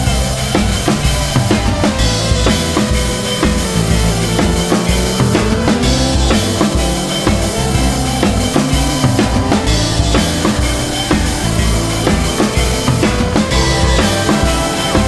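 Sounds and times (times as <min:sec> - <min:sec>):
bass line: 0:00.0 - 0:15.0
drum-kit beat: 0:00.0 - 0:15.0.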